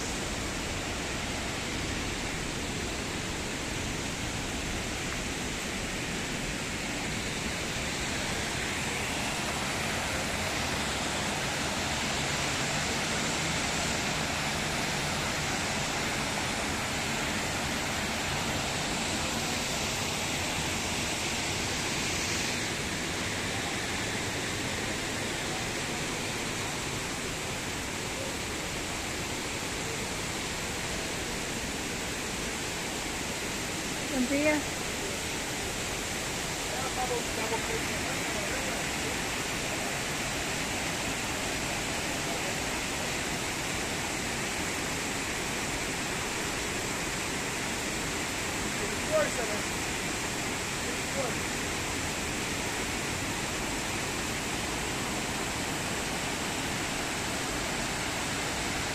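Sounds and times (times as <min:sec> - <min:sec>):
steady rushing noise: 0:00.0 - 0:58.9.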